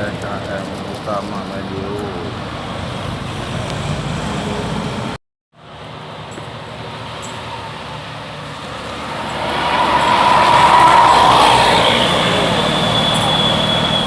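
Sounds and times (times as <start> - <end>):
vehicle approaching: 0.0 - 14.0
vehicles passing: 0.0 - 14.0.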